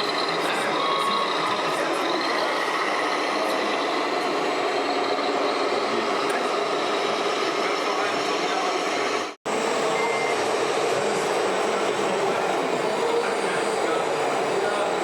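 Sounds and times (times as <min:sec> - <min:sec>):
diesel truck engine sounds: 0:00.0 - 0:15.0.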